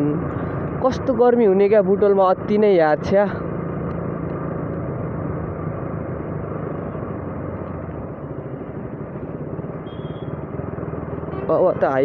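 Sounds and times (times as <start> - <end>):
motorcycle engine hum: 0.0 - 12.0
road and wind noise: 0.0 - 12.0.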